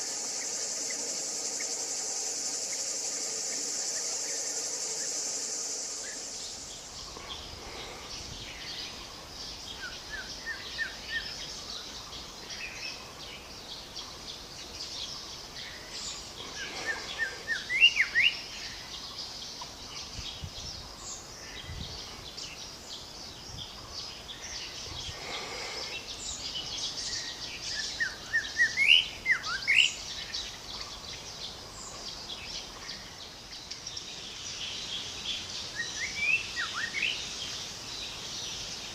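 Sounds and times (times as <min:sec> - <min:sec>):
insect trill: 0:00.0 - 0:38.9
songbirds chirping: 0:00.0 - 0:38.9.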